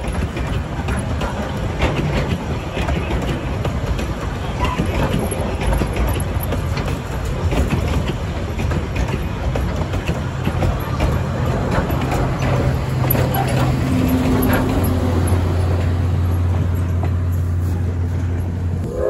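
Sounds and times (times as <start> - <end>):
train rumbling on rails: 0.0 - 19.0
wheels clicking and knocking: 0.0 - 19.0.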